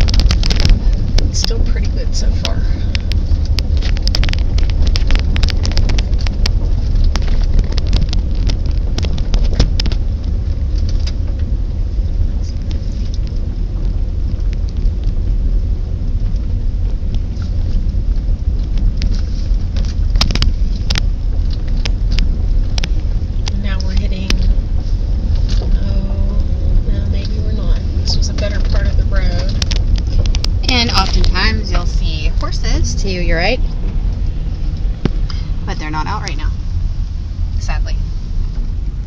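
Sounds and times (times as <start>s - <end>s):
car clicks and knocks over bumps: 0.0s - 39.0s
tyres and engine rumble: 0.0s - 39.0s.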